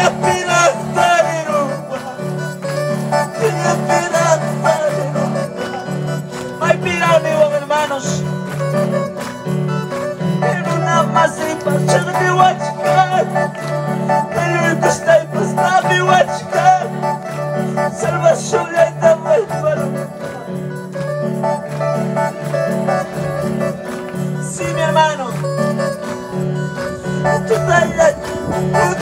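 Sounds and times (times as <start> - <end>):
person singing: 0.0 - 9.1, 10.0 - 29.0.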